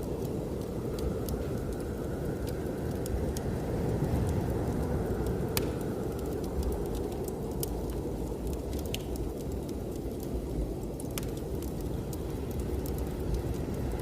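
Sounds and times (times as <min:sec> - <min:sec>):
blizzard wind: 0:00.0 - 0:14.0
wood fire crackling and popping: 0:00.0 - 0:14.0.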